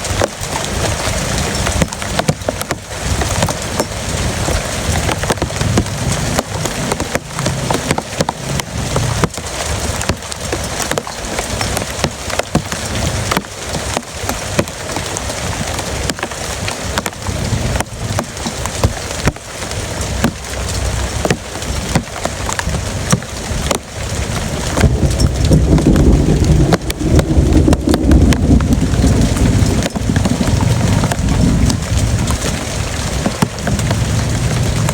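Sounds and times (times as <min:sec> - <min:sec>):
heavy rain falling: 0:00.0 - 0:34.9
raindrops clicking on hard surface: 0:00.0 - 0:34.9.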